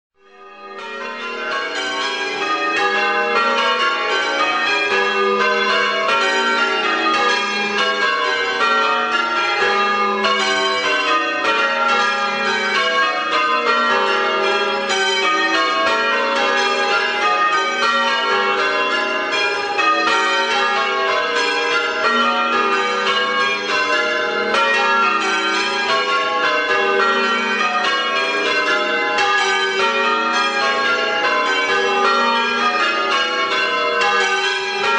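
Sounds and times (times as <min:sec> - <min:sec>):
church bells change ringing: 0:00.2 - 0:34.9.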